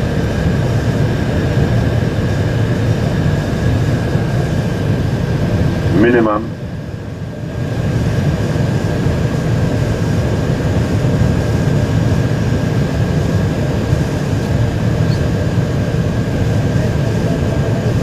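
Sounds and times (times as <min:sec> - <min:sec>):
cockpit airflow and engine noise: 0:00.0 - 0:18.0
thin steady whine: 0:00.0 - 0:18.0.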